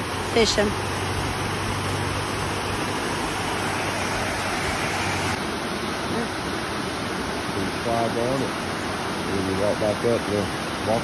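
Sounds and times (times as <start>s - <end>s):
white water rushing over rock: 0.0s - 11.0s.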